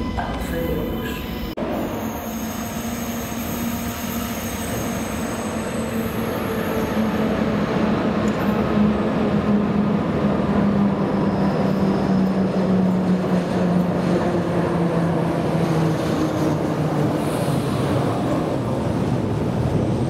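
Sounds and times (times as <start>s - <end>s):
train low hum: 0.0s - 20.0s
train rumbling in tunnel: 0.0s - 20.0s.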